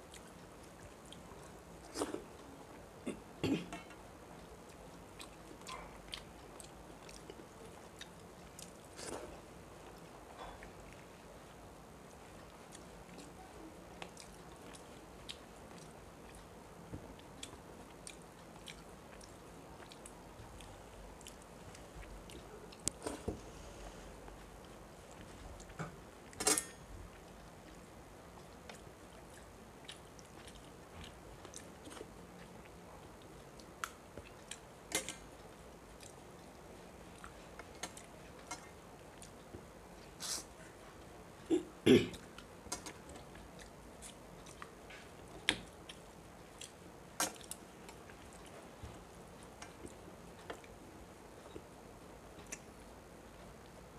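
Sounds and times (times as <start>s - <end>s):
soft chewing and mouth sounds: 0.0s - 53.9s.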